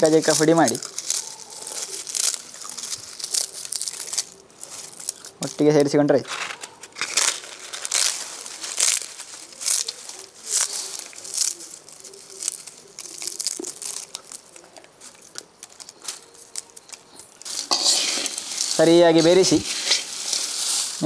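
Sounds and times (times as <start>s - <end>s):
crisp snack crunching: 0.0s - 21.0s.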